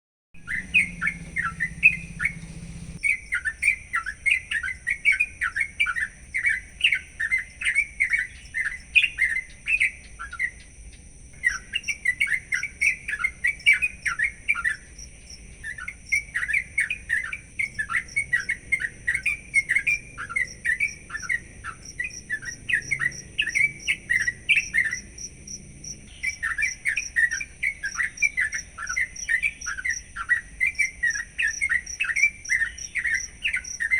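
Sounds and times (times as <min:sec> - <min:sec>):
bird chattering chirps: 0:00.4 - 0:10.6, 0:11.4 - 0:33.9
faint high-pitched whine: 0:00.4 - 0:33.9.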